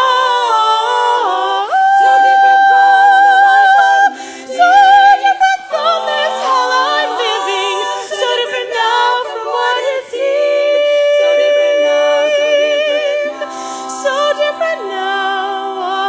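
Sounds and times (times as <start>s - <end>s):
women singing a cappella harmony: 0.0s - 16.0s.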